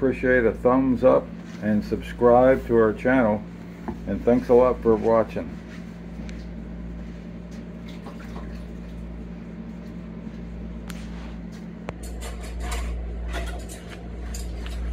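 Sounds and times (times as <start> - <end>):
low electrical hum: 0.0 - 14.9.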